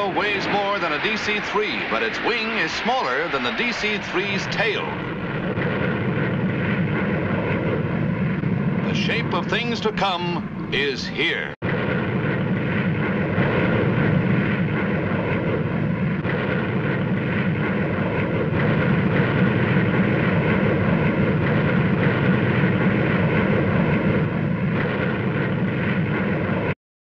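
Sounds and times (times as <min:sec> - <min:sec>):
jet aircraft engine in flight: 0:00.0 - 0:26.8.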